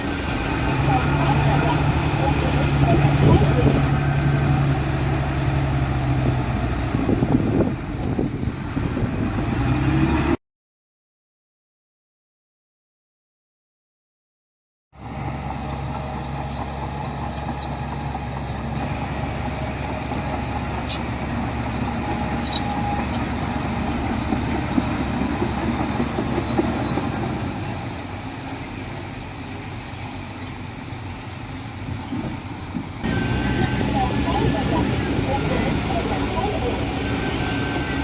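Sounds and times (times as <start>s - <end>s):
diesel engine running: 0.0s - 10.3s, 15.0s - 38.0s.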